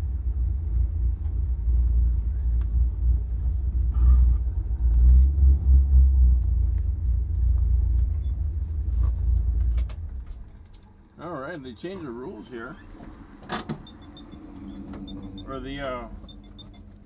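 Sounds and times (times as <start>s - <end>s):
engine deep steady rumble: 0.0s - 17.0s.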